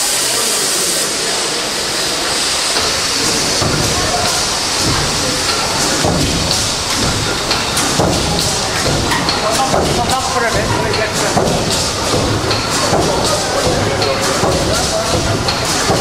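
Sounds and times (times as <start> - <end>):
people's voices: 0.0 - 16.0
steam hissing: 0.0 - 16.0.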